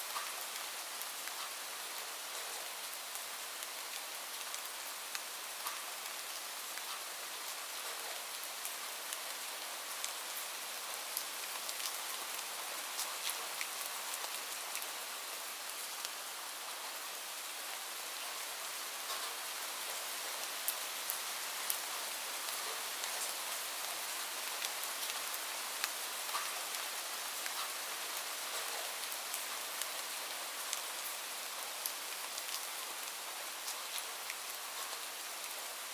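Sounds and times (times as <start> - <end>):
light rain hiss: 0.0 - 35.9
raindrops ticking on surface: 0.1 - 16.6, 18.1 - 35.9.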